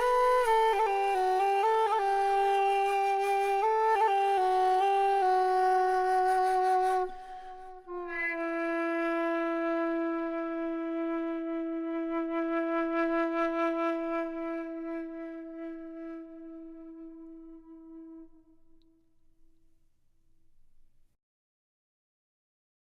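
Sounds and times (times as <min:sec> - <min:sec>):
flute-like wind instrument: 0:00.0 - 0:18.8.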